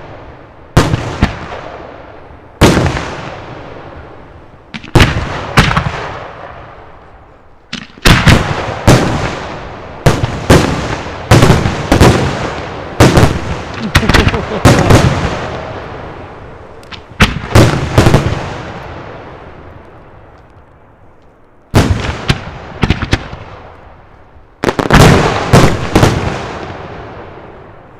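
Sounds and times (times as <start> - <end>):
firework booms with rolling echo: 0.0 - 20.3, 21.7 - 27.9.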